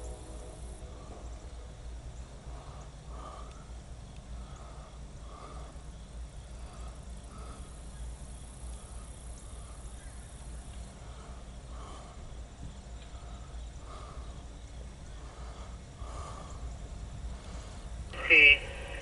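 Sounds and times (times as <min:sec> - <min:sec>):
distant diesel locomotive rumble: 0:00.0 - 0:19.0.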